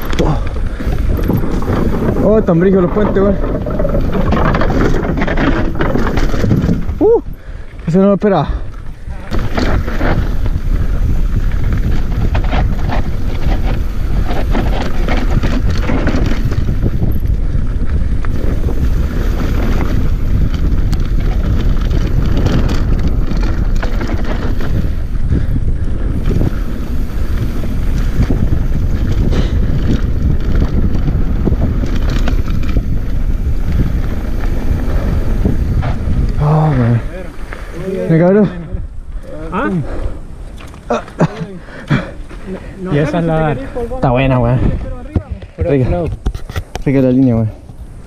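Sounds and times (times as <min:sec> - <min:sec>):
bike rattles and knocks: 0:00.0 - 0:37.9, 0:40.5 - 0:48.0
wind buffeting microphone: 0:00.0 - 0:48.0.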